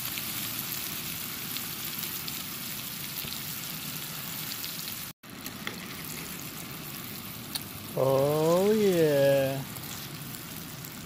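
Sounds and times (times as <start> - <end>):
oysters deep-frying in oil: 0.0 - 11.0.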